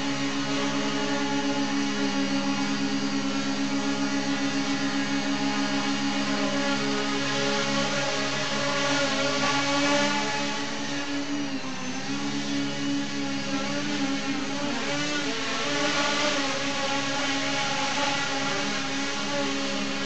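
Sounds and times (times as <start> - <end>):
drone propellers buzzing: 0.0 - 20.0.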